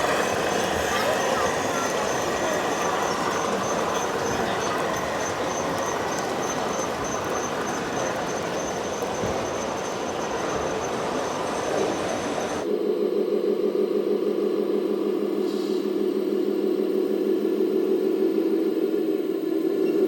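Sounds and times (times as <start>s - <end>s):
fluttering mechanical hum: 0.0s - 20.0s.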